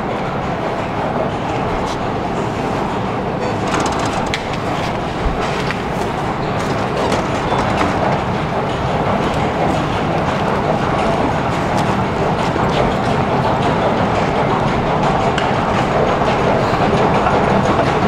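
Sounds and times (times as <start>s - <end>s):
metro station rumbling: 0.0s - 18.0s.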